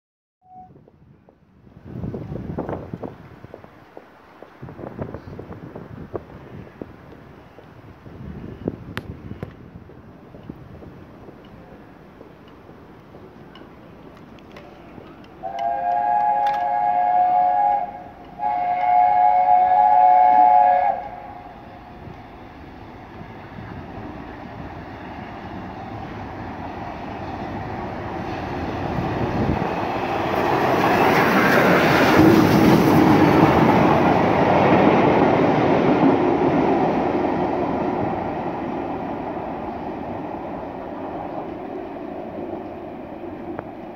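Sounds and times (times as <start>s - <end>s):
steam locomotives passing: 0.5s - 43.9s.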